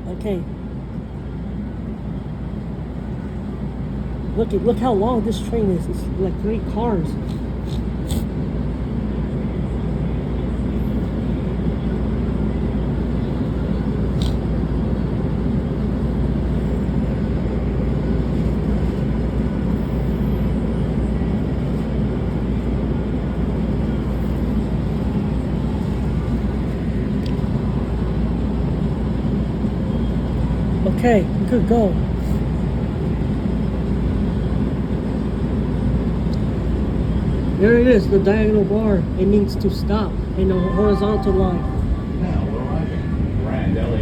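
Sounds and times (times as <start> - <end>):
train car rumble and hiss: 0.0 - 44.0.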